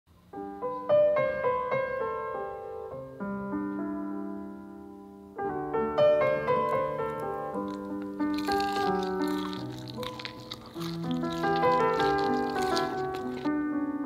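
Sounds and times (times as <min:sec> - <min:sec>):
gentle piano melody: 0:00.3 - 0:14.0.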